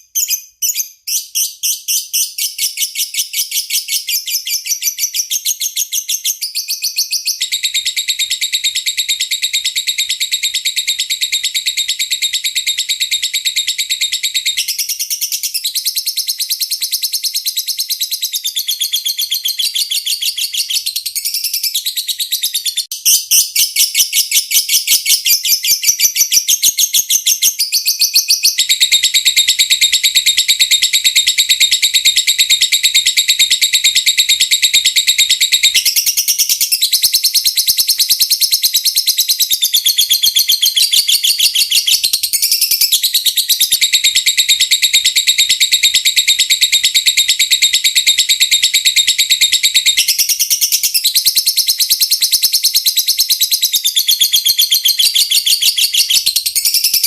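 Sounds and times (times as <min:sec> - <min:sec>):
lovebird chattering trill: 0:00.1 - 0:57.0.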